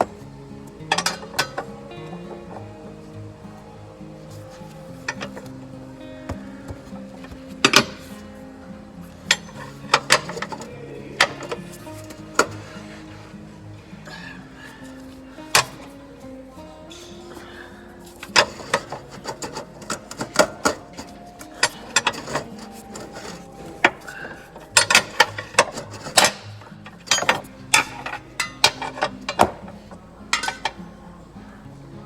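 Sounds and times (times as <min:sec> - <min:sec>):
hand tools clanking on metal: 0:00.0 - 0:31.1.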